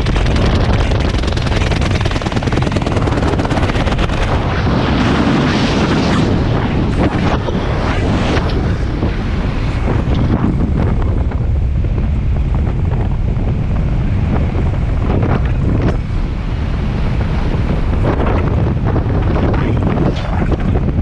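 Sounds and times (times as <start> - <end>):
parachute fluttering: 0.0 - 21.0
wind rushing over microphone: 0.0 - 21.0.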